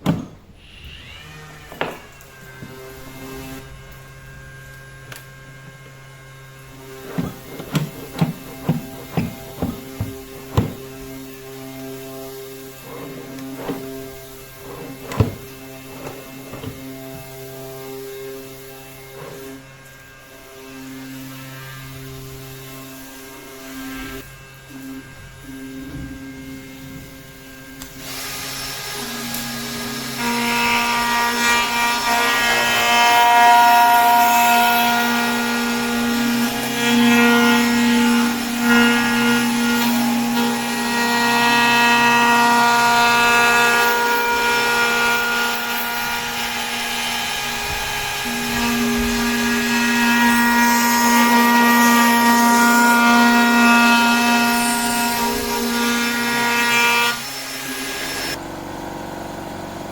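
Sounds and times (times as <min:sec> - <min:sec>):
power tool cutting wood: 0:00.0 - 0:24.2, 0:27.4 - 0:58.4.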